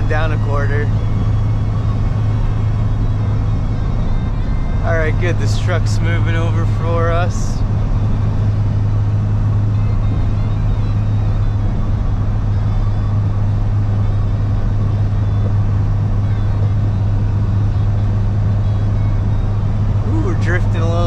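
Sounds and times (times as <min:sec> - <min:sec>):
road and wind noise: 0:00.0 - 0:21.0
truck engine hum: 0:00.0 - 0:21.0.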